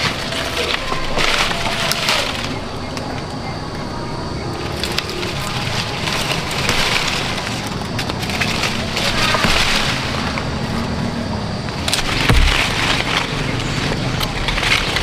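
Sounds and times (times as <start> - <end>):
leaves and twigs rustling: 0.0 - 15.0.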